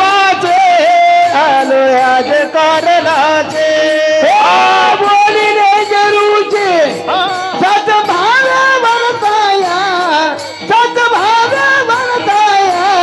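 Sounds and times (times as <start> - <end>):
musical accompaniment: 0.0 - 13.0
person singing devotional song: 0.0 - 13.0.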